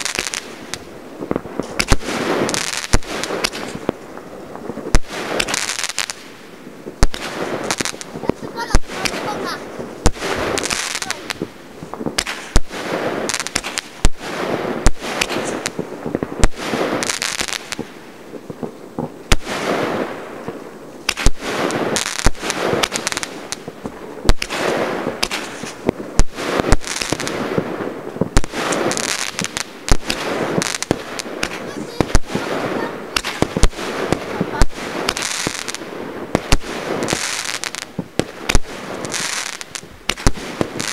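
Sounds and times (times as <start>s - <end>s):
fireworks banging: 0.0s - 40.9s
fireworks hissing: 0.0s - 40.9s.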